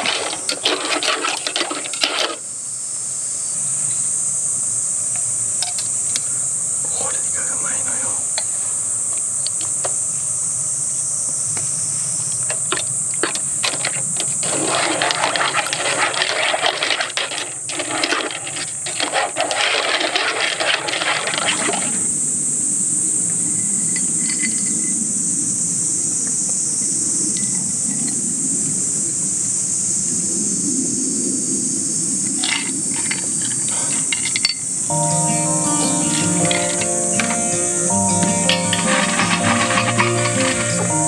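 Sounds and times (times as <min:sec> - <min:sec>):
cicada drone: 0:00.0 - 0:38.5.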